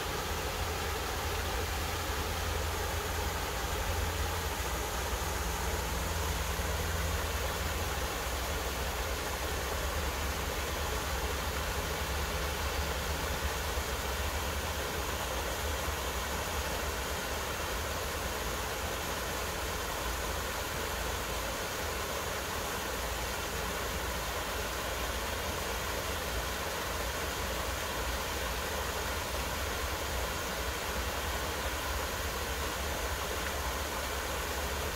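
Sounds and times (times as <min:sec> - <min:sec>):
waterfall rushing water: 0:00.0 - 0:34.9.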